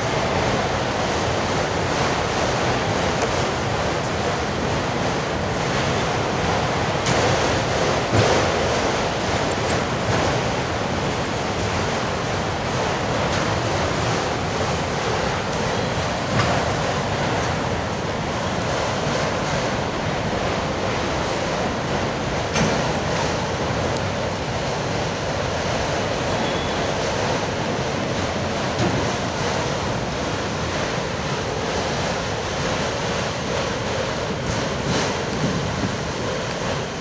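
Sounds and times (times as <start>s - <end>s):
train wheels rushing on track: 0.0s - 37.0s.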